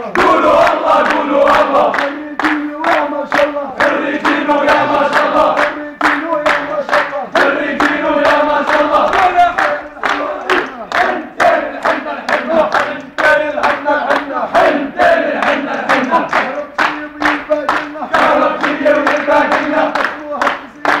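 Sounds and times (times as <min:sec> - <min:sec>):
hand claps: 0:00.0 - 0:21.0
men chanting in unison: 0:00.0 - 0:21.0.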